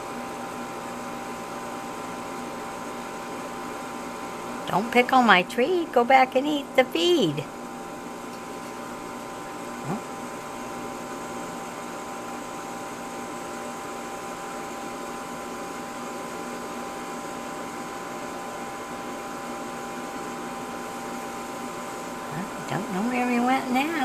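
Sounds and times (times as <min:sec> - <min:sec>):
machine hum and hiss: 0:00.0 - 0:24.0.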